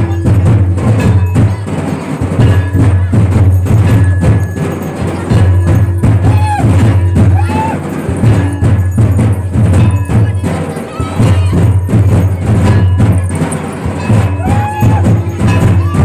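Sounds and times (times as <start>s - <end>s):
drums beating a steady rhythm: 0.0s - 16.0s.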